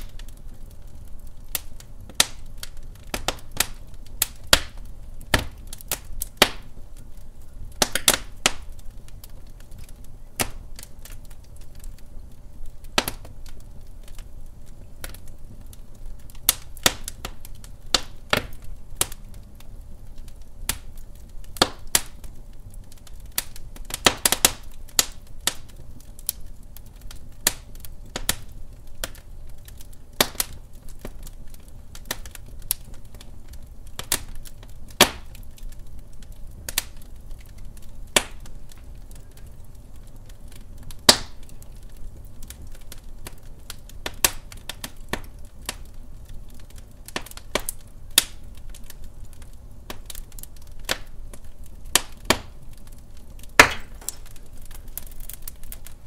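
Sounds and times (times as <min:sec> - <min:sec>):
fire crackling and popping: 0:00.0 - 0:56.0
low fire rumble: 0:00.0 - 0:56.0.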